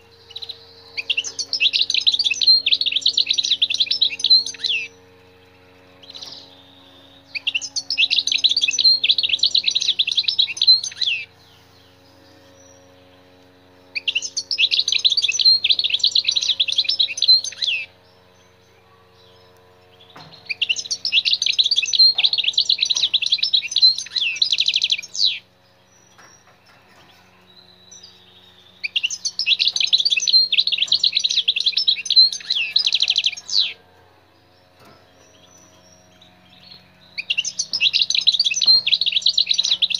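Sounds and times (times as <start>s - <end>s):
bird twittering: 0.0s - 13.2s, 13.8s - 18.0s, 19.2s - 26.8s, 27.4s - 33.8s, 34.8s - 39.9s.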